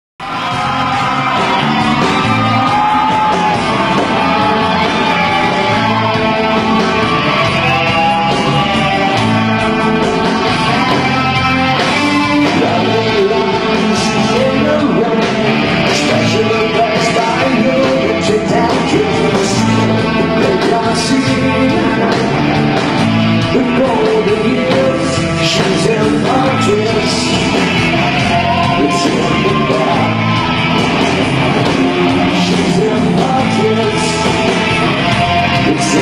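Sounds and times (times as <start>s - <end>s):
rock band playing: 0.2s - 36.0s.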